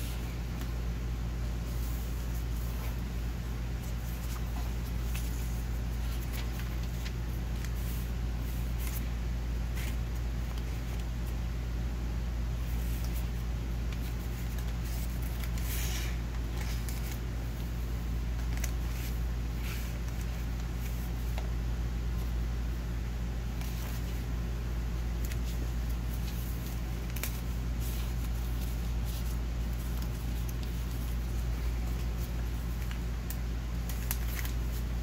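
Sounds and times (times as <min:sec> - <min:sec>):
steady low hum: 0:00.0 - 0:35.0
paper rustling and crinkling: 0:01.6 - 0:11.4, 0:12.5 - 0:22.3, 0:23.5 - 0:24.3, 0:25.0 - 0:35.0.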